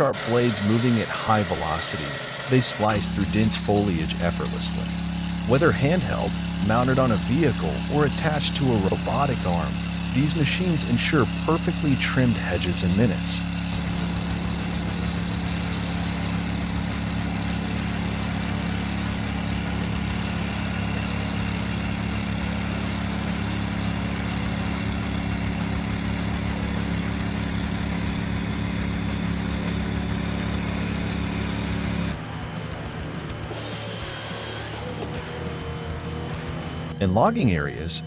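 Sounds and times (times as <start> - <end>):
hedge trimmer engine running: 0.0 - 38.0.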